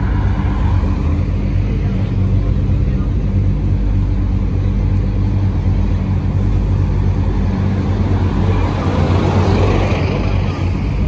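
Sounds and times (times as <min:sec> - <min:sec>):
bus passing close by: 0:00.0 - 0:04.0, 0:04.7 - 0:11.0
road traffic engine drone: 0:00.0 - 0:11.0.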